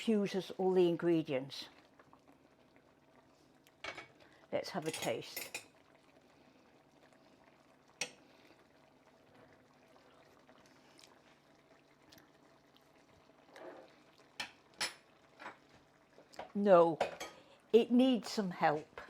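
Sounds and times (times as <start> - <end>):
sauce simmering in a skillet: 0.0 - 19.0.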